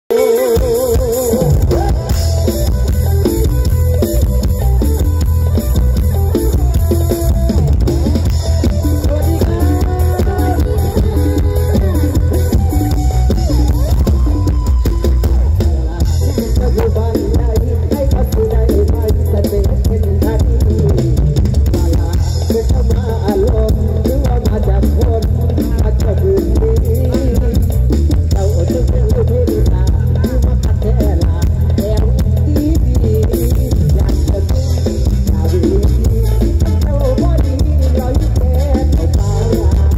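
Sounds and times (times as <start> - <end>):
live band music over loudspeakers: 0.0 - 39.9
drum kit: 0.1 - 39.9
plucked melody line: 0.1 - 39.9
heavy bass: 0.2 - 39.9.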